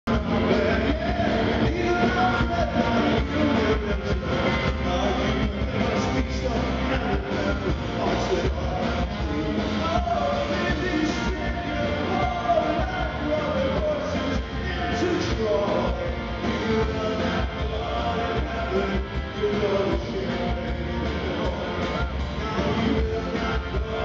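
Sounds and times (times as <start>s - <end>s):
live rock band playing: 0.1s - 24.0s.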